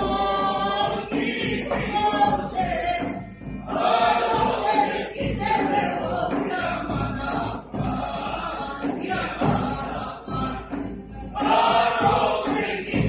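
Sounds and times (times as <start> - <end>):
person singing with accompaniment: 0.0 - 13.0.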